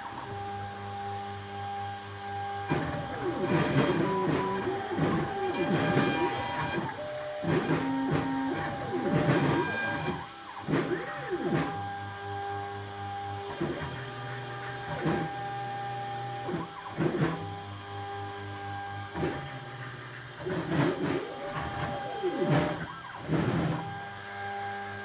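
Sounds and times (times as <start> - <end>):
spindle high whine: 0.0 - 25.0
stepper motors whining: 0.0 - 25.0.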